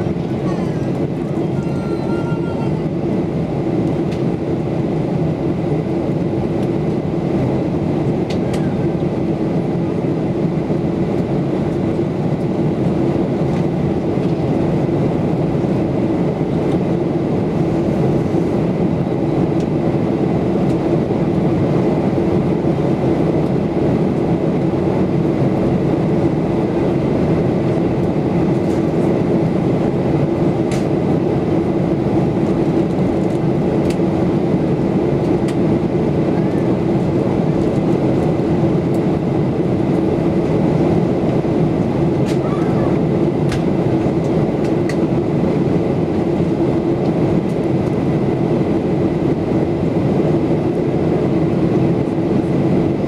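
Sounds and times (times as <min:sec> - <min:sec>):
airplane cabin roar: 0:00.0 - 0:53.0
constant hum: 0:00.0 - 0:53.0.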